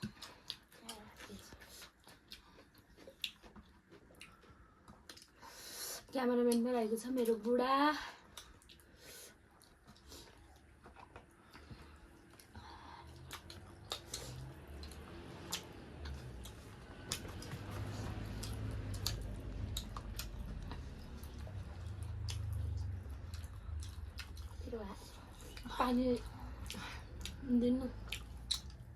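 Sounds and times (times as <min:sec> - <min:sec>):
chewing food: 0:00.0 - 0:28.9.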